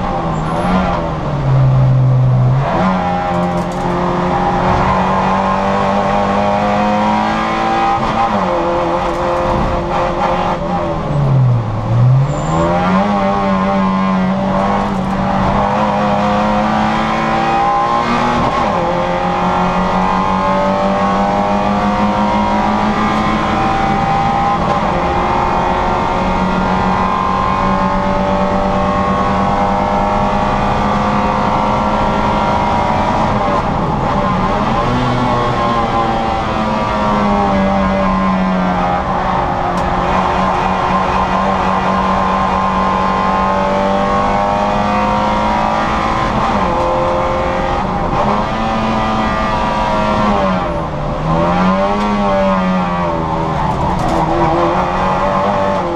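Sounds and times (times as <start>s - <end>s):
car engine revving at high revs: 0.0s - 55.9s.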